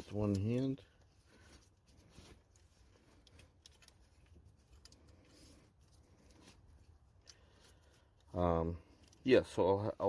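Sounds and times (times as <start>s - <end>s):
faint clicks of handled parts: 0.0s - 9.7s.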